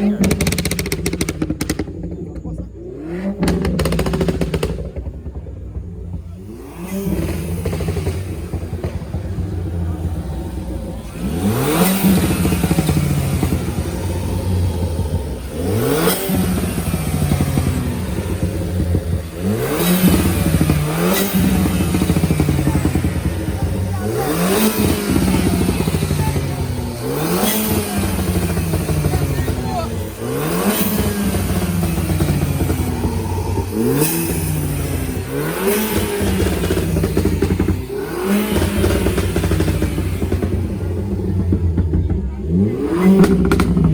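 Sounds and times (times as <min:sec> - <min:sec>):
engine idling and revving: 0:00.0 - 0:43.9.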